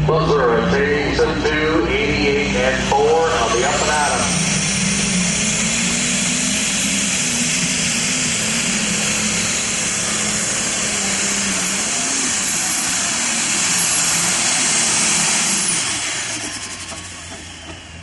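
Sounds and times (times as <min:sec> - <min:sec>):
high turbo whine: 0:00.0 - 0:18.0
pulling tractor engine under load: 0:02.9 - 0:18.0.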